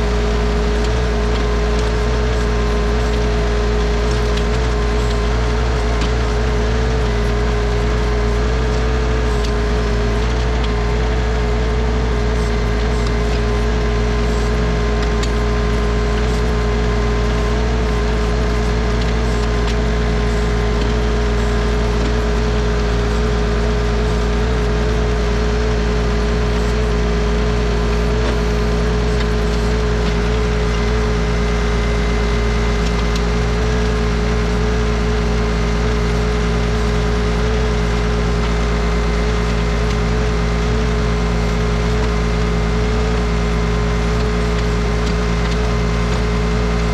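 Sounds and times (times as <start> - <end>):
steady whine: 0.0 - 46.9
tractor engine running: 0.0 - 46.9.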